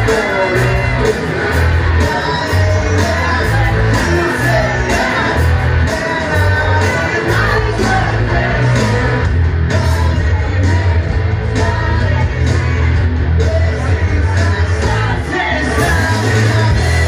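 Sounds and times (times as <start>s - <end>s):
drums: 0.0s - 17.0s
electric guitars: 0.0s - 17.0s
heavy bass: 0.0s - 17.0s
person singing: 0.0s - 17.0s.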